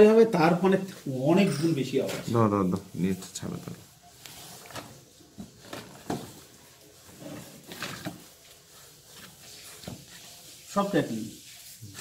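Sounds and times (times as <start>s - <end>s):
plastic sacks rustling: 0.8s - 12.0s.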